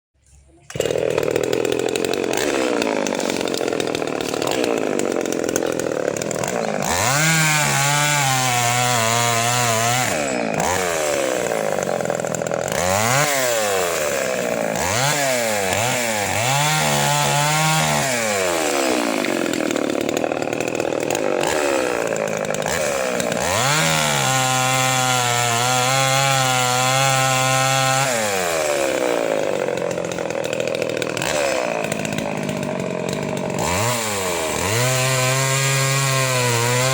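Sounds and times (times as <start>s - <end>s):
chainsaw revving and cutting: 0.7s - 36.9s.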